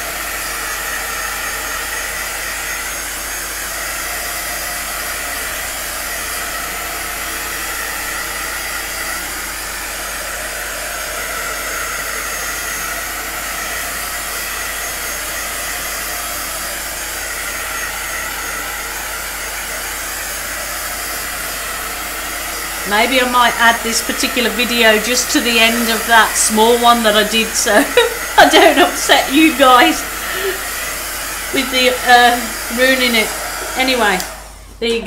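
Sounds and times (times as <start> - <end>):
heat gun blowing: 0.0 - 35.0.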